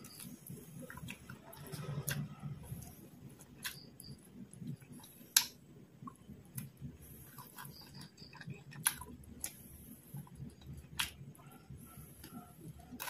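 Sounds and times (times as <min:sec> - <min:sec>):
chewing fried food: 0:00.0 - 0:13.0.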